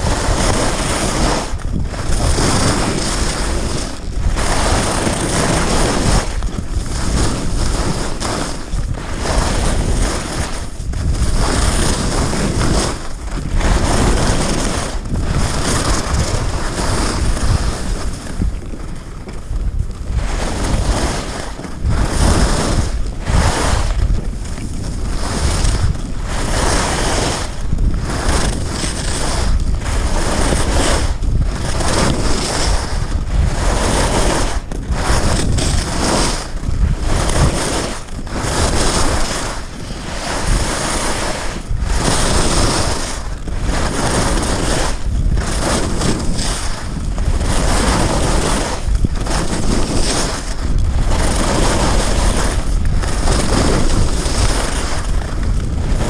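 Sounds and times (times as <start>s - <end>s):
skis scraping over snow: 0.0s - 56.0s
wind rushing over microphone: 0.0s - 56.0s.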